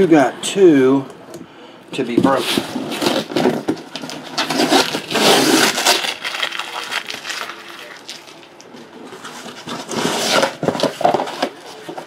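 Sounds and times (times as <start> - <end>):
plastic wrap crinkling: 2.3 - 12.0.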